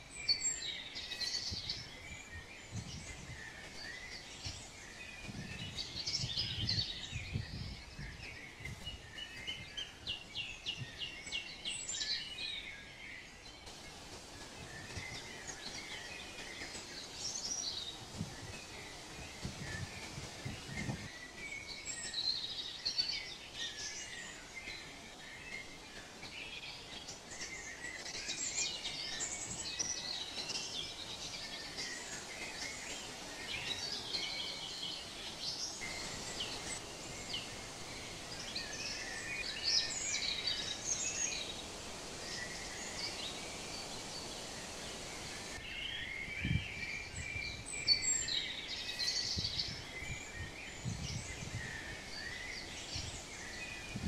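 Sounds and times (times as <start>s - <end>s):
songbirds chirping and singing: 0.0s - 54.0s
steady outdoor hiss: 0.0s - 54.0s.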